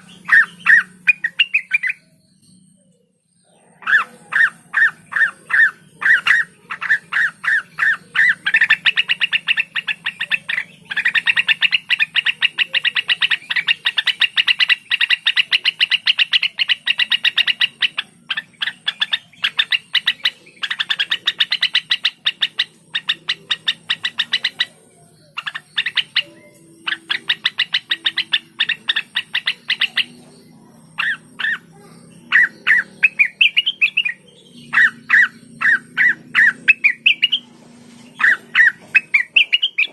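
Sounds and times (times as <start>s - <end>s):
bird singing rapid notes: 0.0s - 39.9s.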